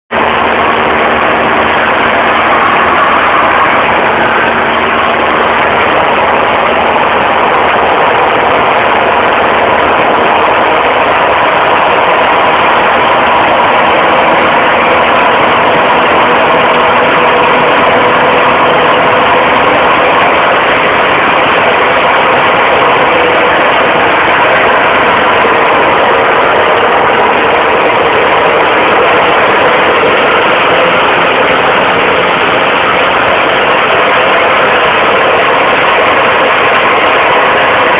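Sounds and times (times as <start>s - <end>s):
light aircraft engine drone: 0.1s - 37.9s.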